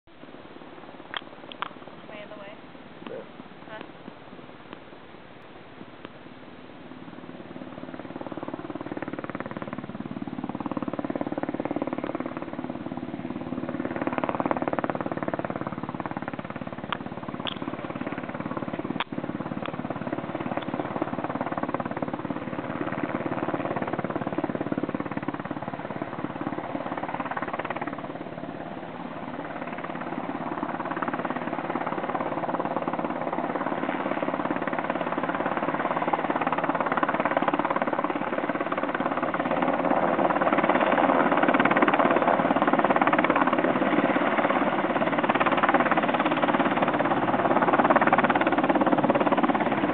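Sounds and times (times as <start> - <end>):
helicopter rotor beating: 2.0 - 3.9, 6.8 - 49.9.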